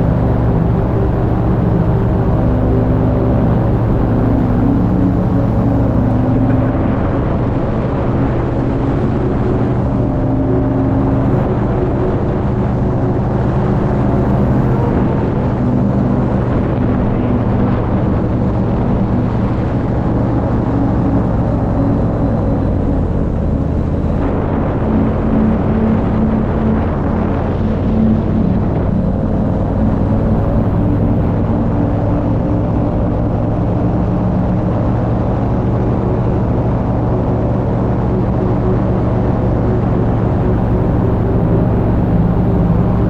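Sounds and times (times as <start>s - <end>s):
paramotor engine drone: 0.0s - 43.0s.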